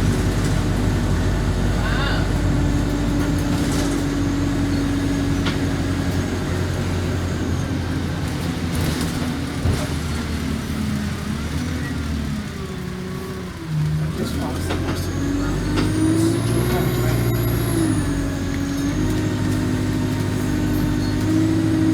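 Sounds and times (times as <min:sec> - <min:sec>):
bus engine drone with whine: 0:00.0 - 0:21.9.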